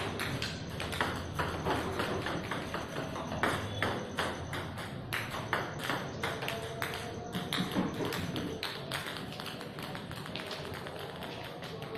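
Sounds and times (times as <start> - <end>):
table tennis balls clicking: 0.0 - 11.9.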